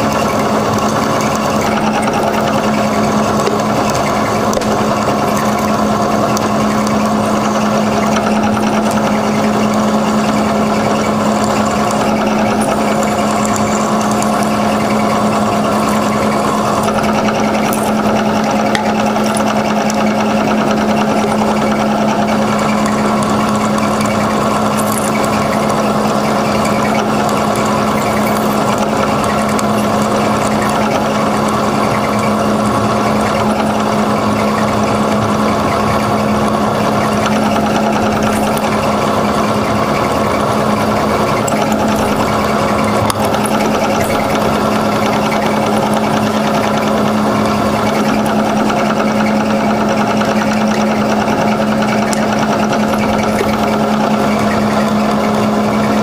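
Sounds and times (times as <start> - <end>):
milling machine drilling metal: 0.0 - 56.0.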